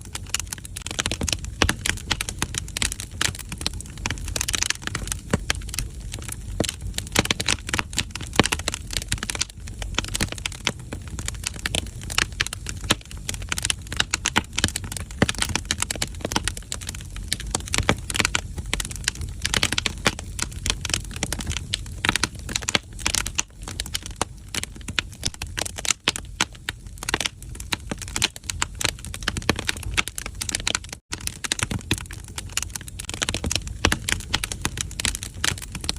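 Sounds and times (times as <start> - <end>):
firewood crackling and popping: 0.0 - 35.9
low steady fire rumble: 0.0 - 35.9.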